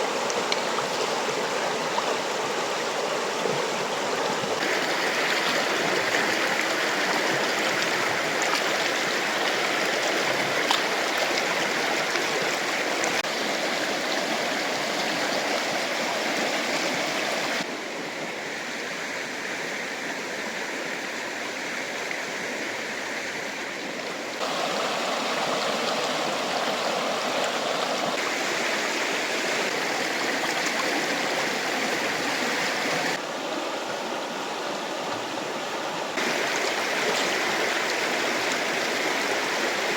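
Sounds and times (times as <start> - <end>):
fast-flowing river rushing: 0.0 - 17.7, 24.4 - 39.9.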